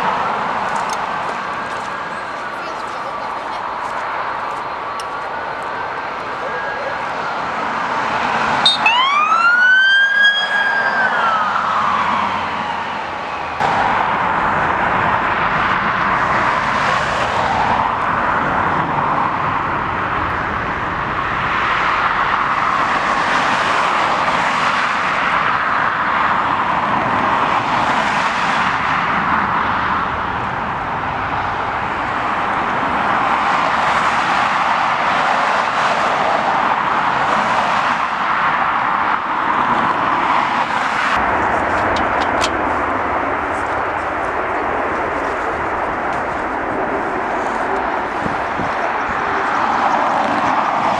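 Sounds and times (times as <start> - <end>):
rushing engine noise: 0.0 - 50.9.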